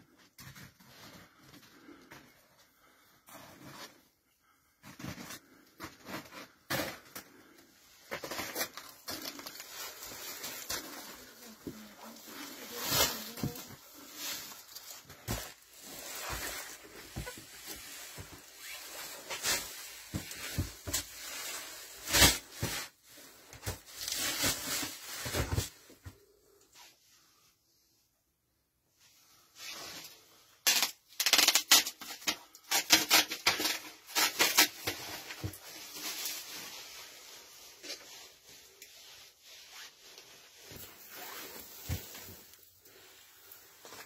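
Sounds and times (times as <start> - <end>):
clothing rustling: 0.0 - 26.0, 34.0 - 44.0.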